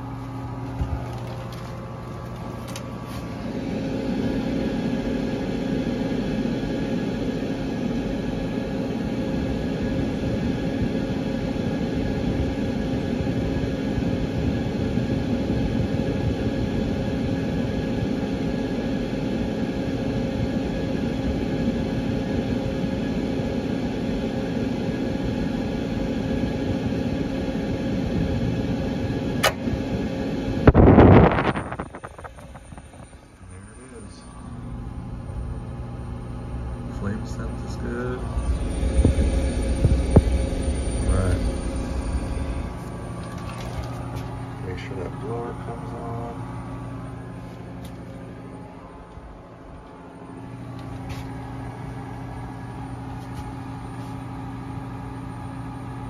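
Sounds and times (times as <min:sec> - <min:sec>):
furnace draft motor humming: 0:00.0 - 0:56.0.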